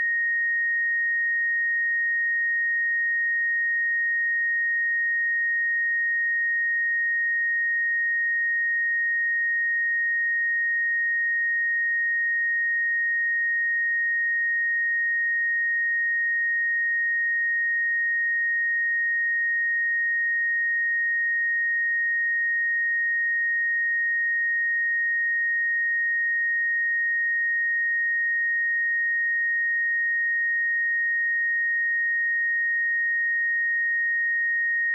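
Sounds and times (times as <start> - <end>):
sine-wave test tone: 0.0 - 34.9.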